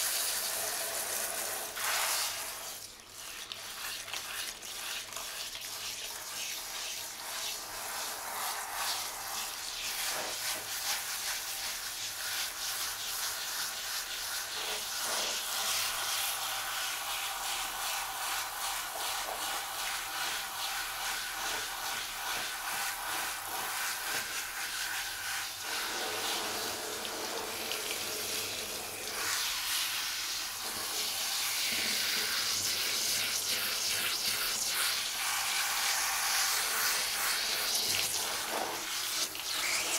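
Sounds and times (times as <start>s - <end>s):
shower head spraying water: 0.0s - 39.9s.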